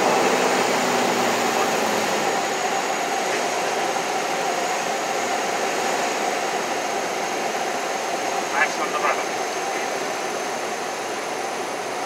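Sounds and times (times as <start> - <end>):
light aircraft engine running: 0.0 - 12.0.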